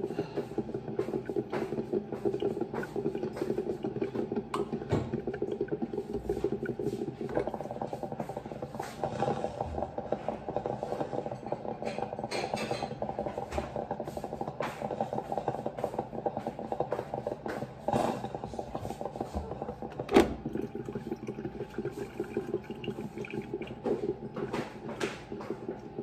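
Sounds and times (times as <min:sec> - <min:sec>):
coffee maker gurgling: 0:00.0 - 0:26.0.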